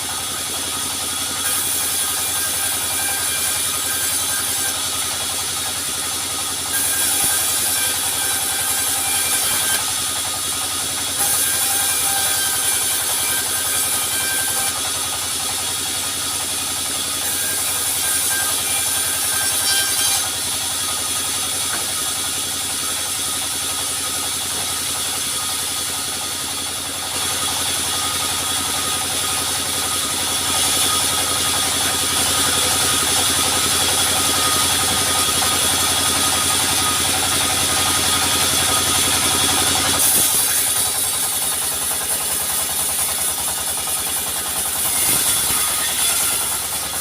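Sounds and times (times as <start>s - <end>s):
sawmill engine running: 0.0s - 47.0s.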